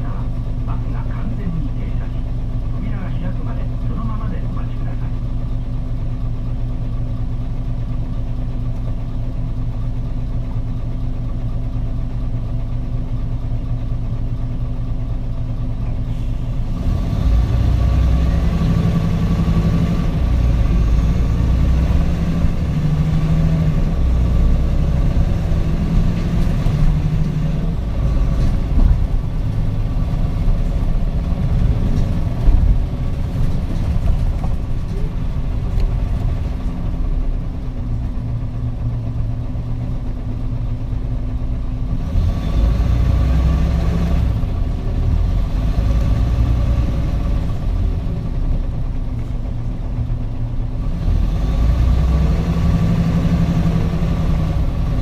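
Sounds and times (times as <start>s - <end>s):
road noise: 0.0s - 5.1s, 15.8s - 55.0s
bus diesel engine: 0.0s - 55.0s.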